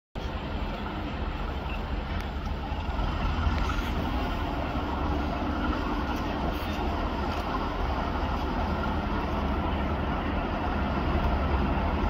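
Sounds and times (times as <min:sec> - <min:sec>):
diesel locomotive engine running: 0:00.2 - 0:12.0.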